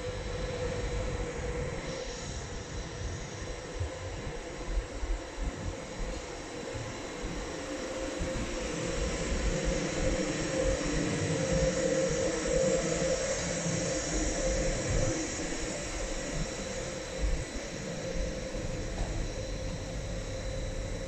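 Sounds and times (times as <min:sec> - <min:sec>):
electric locomotive whine: 0:00.0 - 0:21.0
train rolling rumble: 0:00.0 - 0:21.0.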